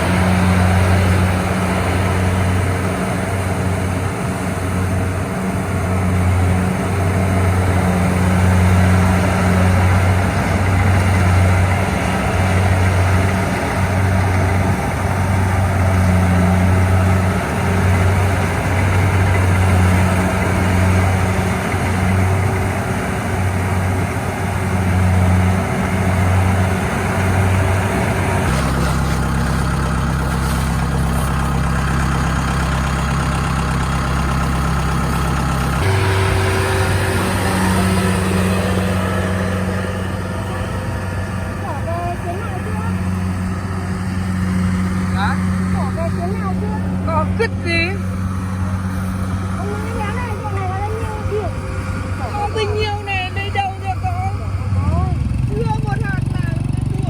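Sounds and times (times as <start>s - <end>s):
machine engine droning: 0.0s - 57.0s.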